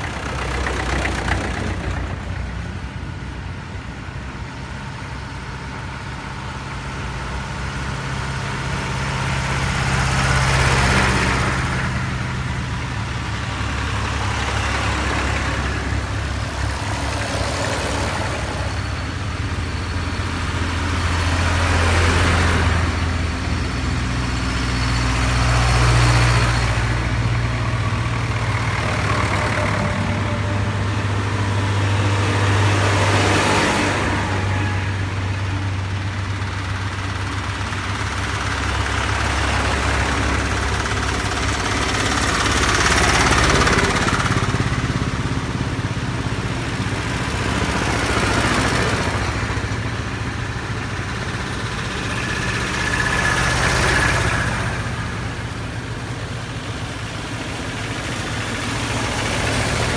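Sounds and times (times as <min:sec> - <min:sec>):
tractors chugging past: 0:00.0 - 0:59.9.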